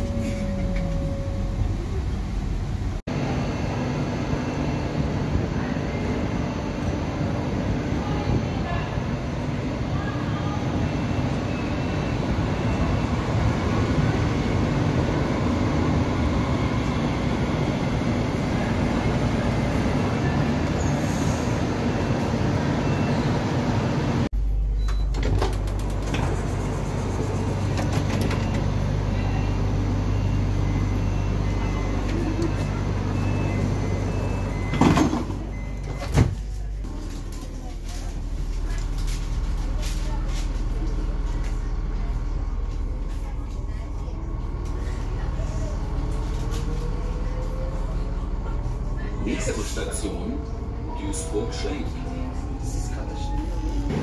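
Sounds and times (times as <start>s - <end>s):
low train hum: 0.0s - 54.0s
train rumbling: 0.0s - 54.0s.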